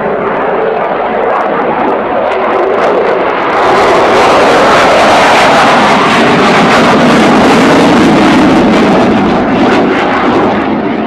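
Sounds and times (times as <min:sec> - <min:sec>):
fighter jet flying past: 0:00.0 - 0:11.0.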